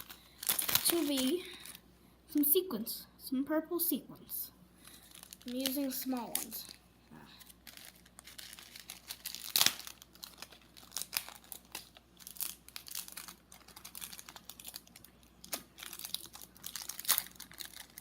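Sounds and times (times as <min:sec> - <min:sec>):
plastic packaging crinkling: 0:00.0 - 0:01.8, 0:04.8 - 0:18.0.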